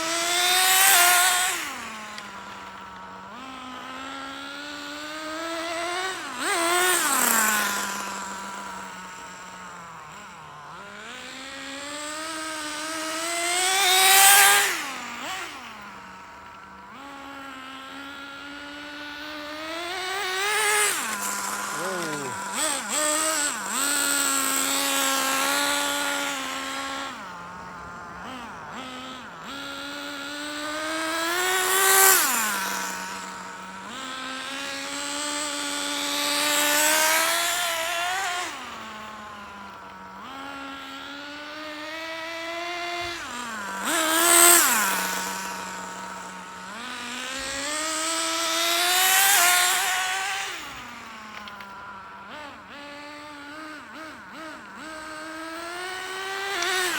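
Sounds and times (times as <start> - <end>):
small nitro engine revving: 0.0 - 56.9.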